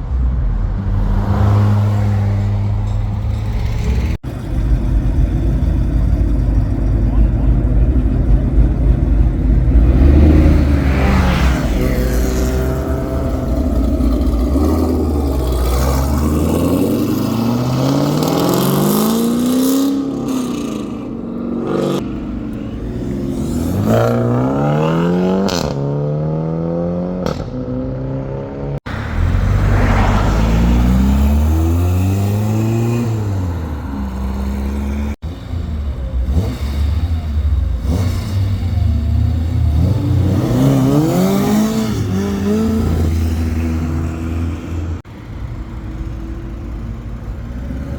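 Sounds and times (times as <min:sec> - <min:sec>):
cars accelerating: 0:00.0 - 0:47.9.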